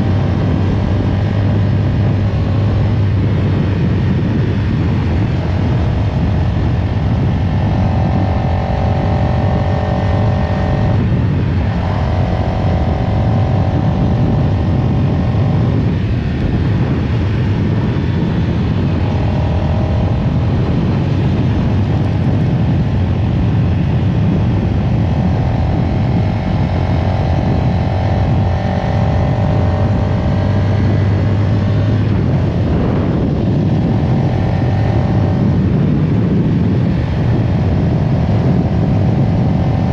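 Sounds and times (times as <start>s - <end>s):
motorcycle engine deep rumble: 0.0s - 39.9s.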